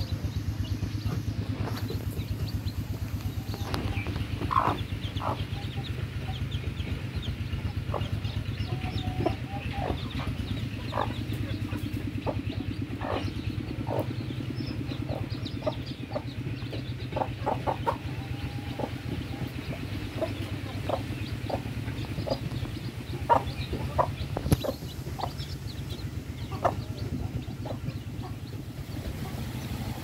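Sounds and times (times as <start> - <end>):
hen clucking: 0.0 - 30.0
steady low hum: 0.0 - 30.0.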